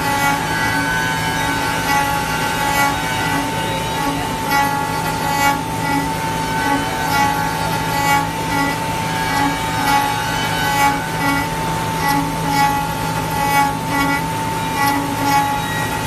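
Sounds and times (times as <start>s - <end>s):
router bit cutting wood: 0.0s - 16.0s
router spindle high whine: 0.0s - 16.0s.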